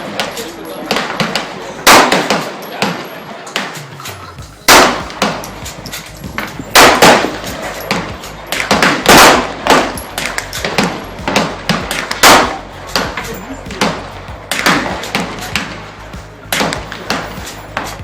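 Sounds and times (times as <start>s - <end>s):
loud gunshots: 0.0s - 3.8s, 4.6s - 15.9s
fainter gunshots: 0.0s - 3.9s, 4.6s - 15.9s.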